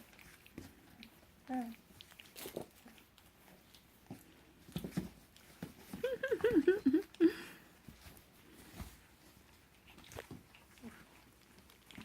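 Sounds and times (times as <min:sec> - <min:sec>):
puppies scuffling: 0:00.0 - 0:12.0.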